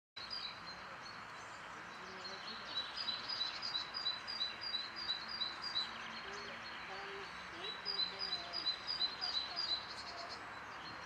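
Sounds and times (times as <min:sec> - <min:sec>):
forest ambience hiss: 0:00.2 - 0:11.0.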